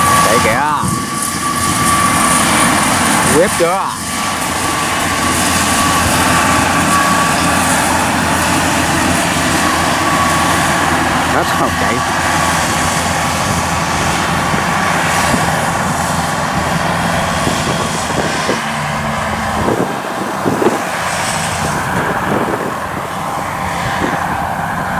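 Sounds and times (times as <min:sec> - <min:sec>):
harvester engine running: 0:00.0 - 0:24.9.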